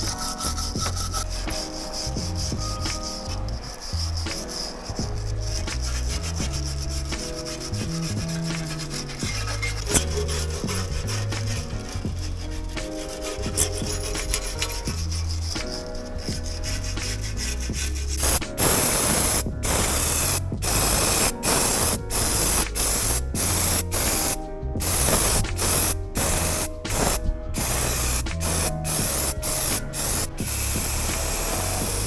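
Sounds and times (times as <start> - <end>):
rubbing sound: 0.0 - 32.0
spray coating hissing: 0.0 - 32.0.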